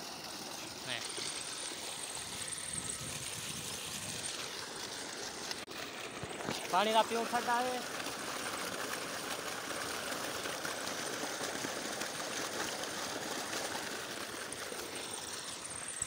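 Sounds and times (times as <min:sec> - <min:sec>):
water gushing from pipe: 0:00.0 - 0:16.0.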